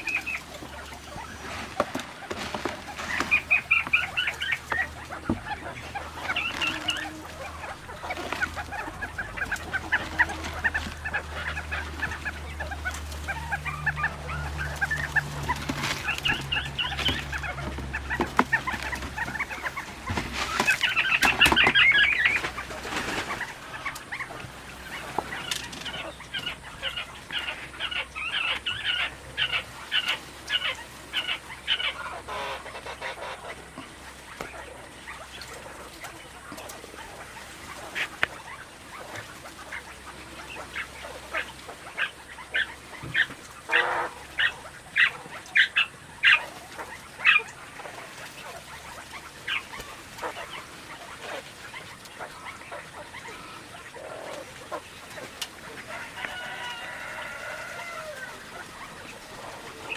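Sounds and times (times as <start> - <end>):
poultry clucking: 0.0 - 59.9.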